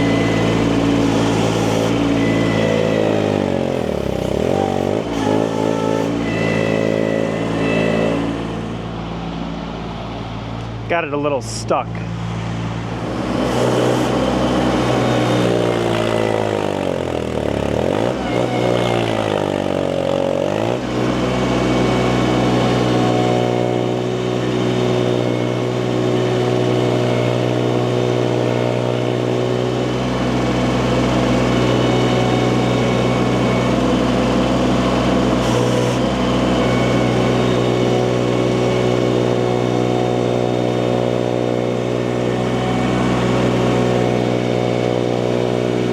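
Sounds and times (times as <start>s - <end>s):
engine bogging down under load: 0.0s - 45.9s.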